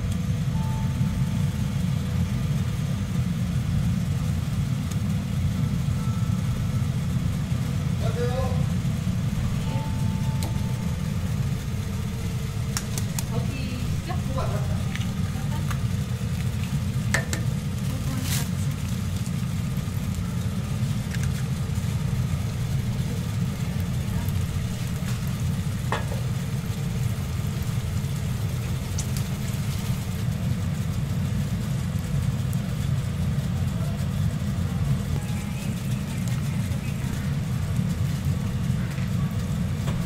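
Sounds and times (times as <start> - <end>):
food sizzling on griddle: 0.0 - 40.0
steady low rumble: 0.0 - 40.0.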